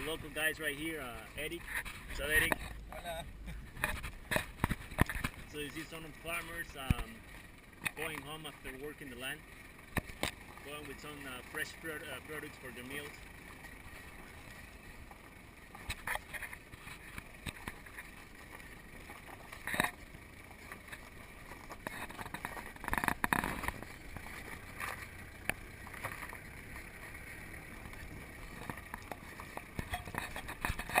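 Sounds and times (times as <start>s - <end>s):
vehicle rumbling on dirt road: 0.0s - 31.0s.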